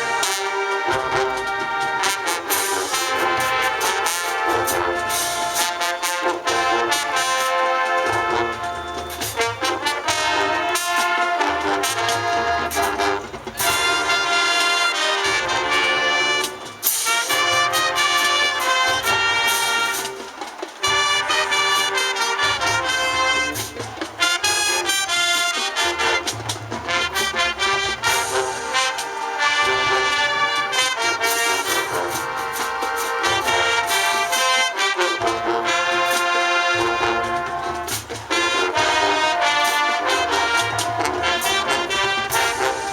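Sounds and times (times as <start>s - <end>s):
brass: 0.0s - 42.9s
drums: 0.0s - 42.9s
marching band playing: 0.0s - 42.9s.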